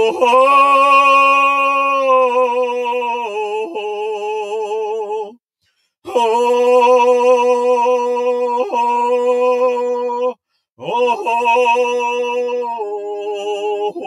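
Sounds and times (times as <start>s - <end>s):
person singing wordless song: 0.0s - 5.4s, 6.0s - 14.0s.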